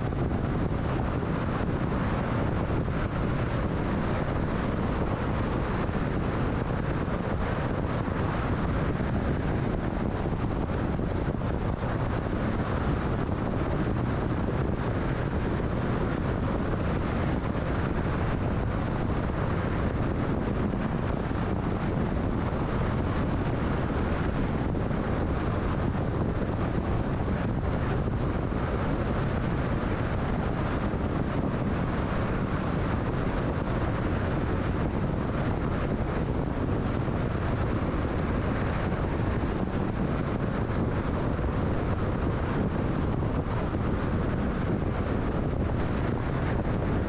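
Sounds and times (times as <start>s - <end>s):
car road and wind noise: 0.0s - 47.0s.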